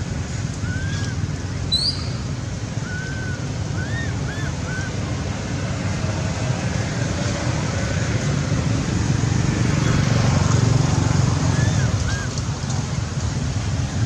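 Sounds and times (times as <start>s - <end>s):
distant traffic: 0.0s - 14.0s
wind: 0.0s - 14.0s.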